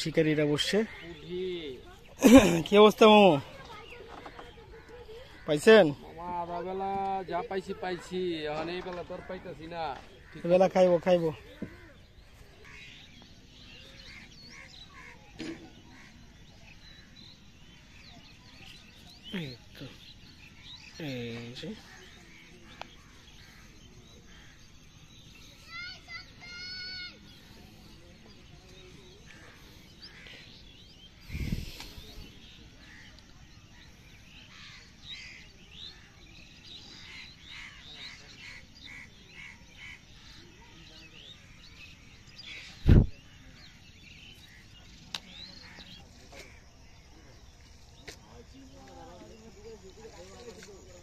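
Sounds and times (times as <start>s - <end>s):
birds chirping and calling: 0.0s - 51.0s.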